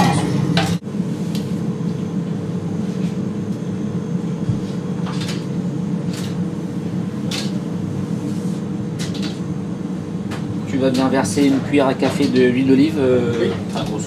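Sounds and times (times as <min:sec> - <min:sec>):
ventilation hum: 0:00.0 - 0:14.0.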